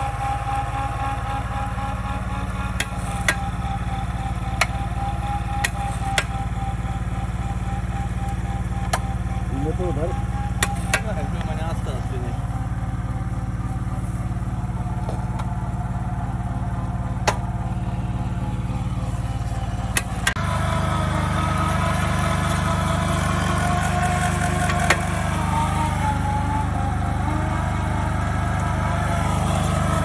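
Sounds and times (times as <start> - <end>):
drilling rig machine drone: 0.0 - 30.0.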